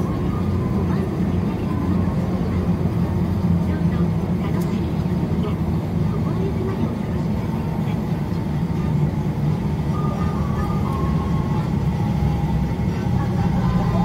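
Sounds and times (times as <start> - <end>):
cable car cabin rumble: 0.0 - 14.0.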